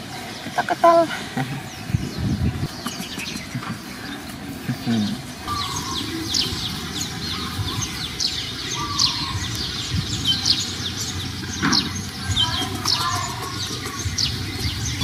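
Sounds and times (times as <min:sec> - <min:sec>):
birds chirping downward: 0:00.0 - 0:15.0.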